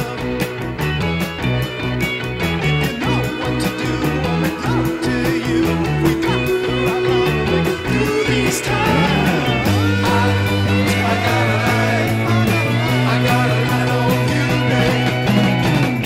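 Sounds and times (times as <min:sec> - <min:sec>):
bass guitar: 0:00.0 - 0:16.0
electric guitar bending notes: 0:00.0 - 0:16.0
steady drum beat: 0:00.0 - 0:16.0.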